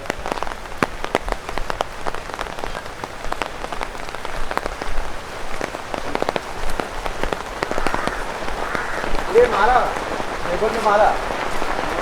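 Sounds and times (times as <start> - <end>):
rain pattering on an umbrella: 0.0 - 12.0.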